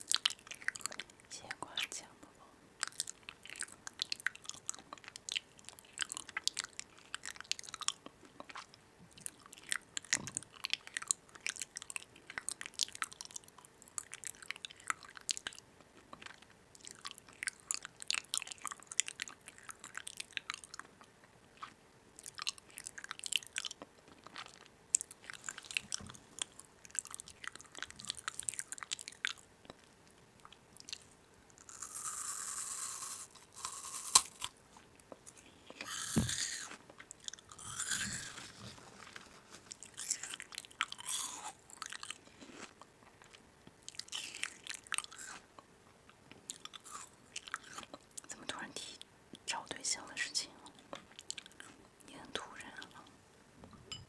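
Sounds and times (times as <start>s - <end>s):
chewing and crunching food: 0.0s - 1.2s, 2.8s - 48.4s, 50.5s - 53.1s.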